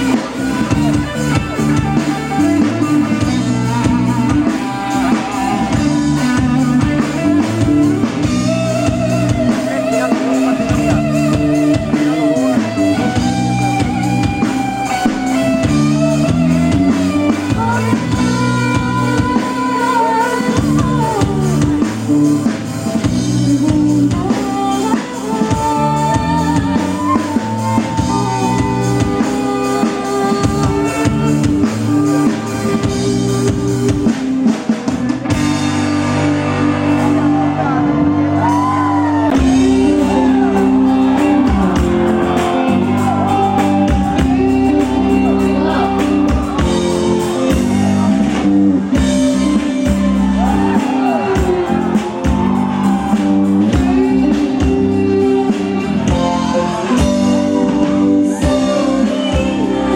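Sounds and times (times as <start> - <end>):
drum kit: 0.0 - 59.9
guitar: 0.0 - 59.9
loud live band music: 0.0 - 59.9.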